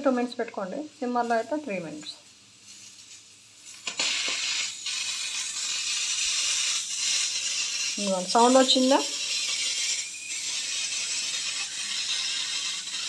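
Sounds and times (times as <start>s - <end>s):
pressure cooker steam hissing: 0.0s - 13.0s.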